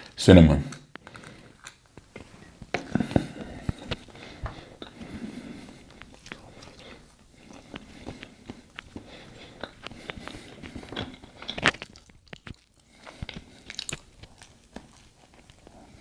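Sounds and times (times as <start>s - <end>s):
person chewing bread: 0.8s - 16.0s.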